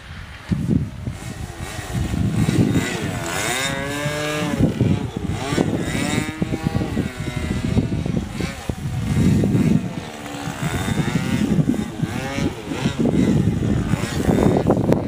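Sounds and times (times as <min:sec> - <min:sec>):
model airplane engine whine: 0:00.0 - 0:15.0
wind buffeting microphone: 0:00.0 - 0:15.0.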